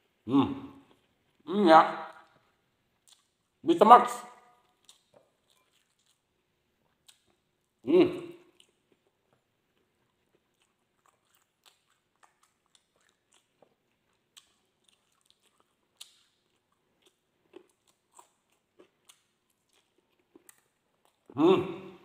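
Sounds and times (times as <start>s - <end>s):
faint chewing mouth noises: 0.8s - 1.5s, 2.1s - 3.6s, 4.6s - 7.8s, 8.4s - 21.4s.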